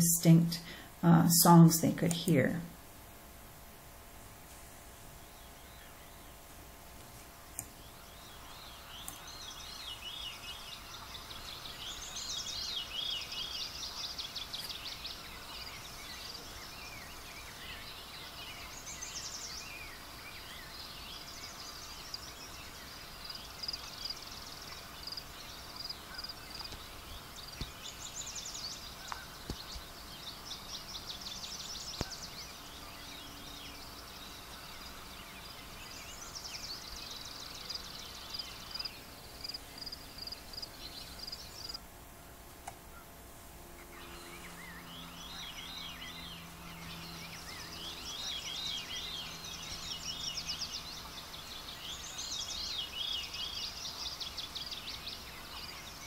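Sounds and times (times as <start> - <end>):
songbirds singing: 0.0 - 3.7, 4.7 - 56.0.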